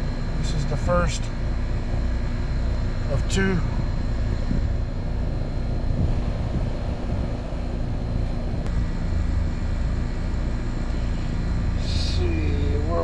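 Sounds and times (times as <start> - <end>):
compressor humming: 0.0 - 13.0
condenser fan rushing: 0.0 - 13.0.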